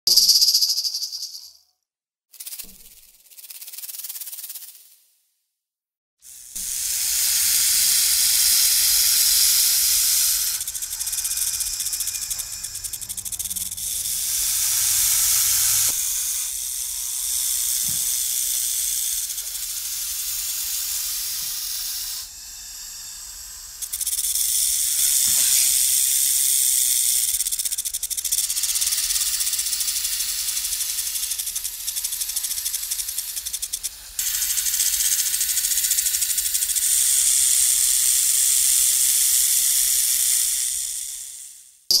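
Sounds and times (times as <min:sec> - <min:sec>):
snake hissing: 0:06.3 - 0:41.6.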